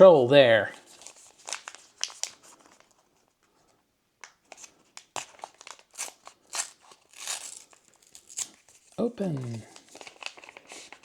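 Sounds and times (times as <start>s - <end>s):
plastic wrapper crinkling: 0.8s - 3.4s, 4.2s - 11.0s.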